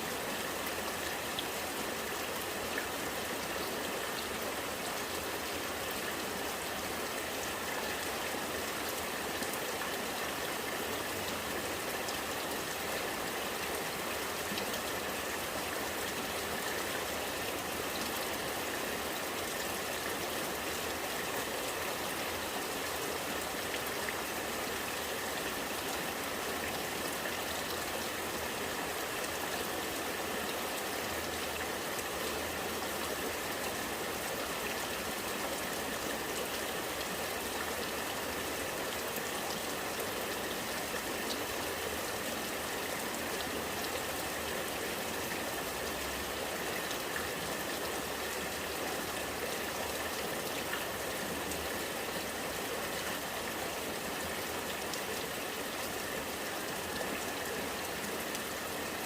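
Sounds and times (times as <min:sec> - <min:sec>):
rain falling: 0:00.0 - 0:59.0
rainwater gurgling: 0:00.0 - 0:59.0.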